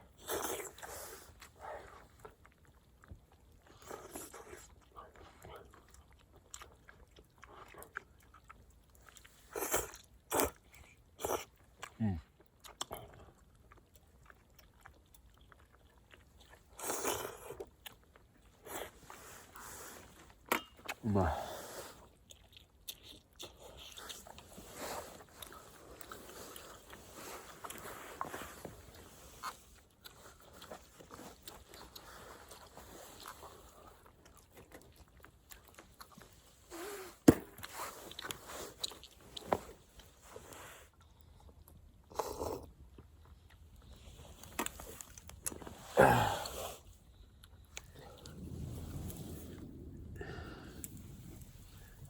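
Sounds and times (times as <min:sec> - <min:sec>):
person chewing food: 0:00.0 - 0:21.0, 0:21.9 - 0:49.2.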